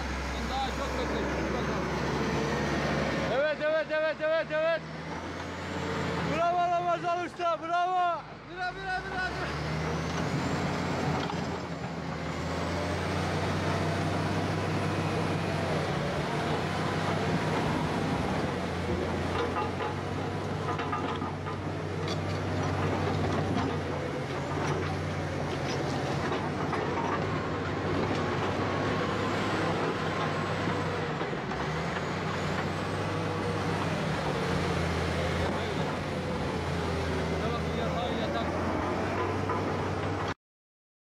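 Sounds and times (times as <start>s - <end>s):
bulldozer diesel engine: 0.0s - 40.4s.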